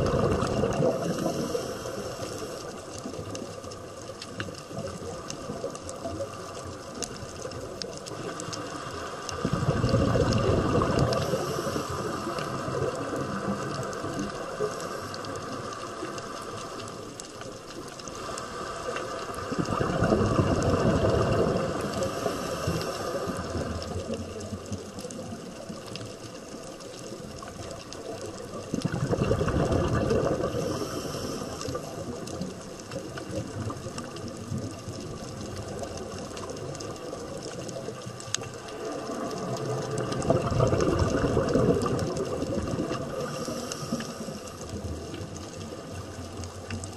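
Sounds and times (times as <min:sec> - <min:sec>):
underwater bubbling: 0:00.0 - 0:46.9.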